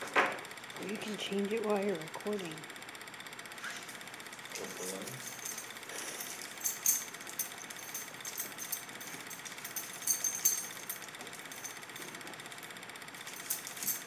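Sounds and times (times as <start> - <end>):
film projector rattle: 0.0 - 14.0.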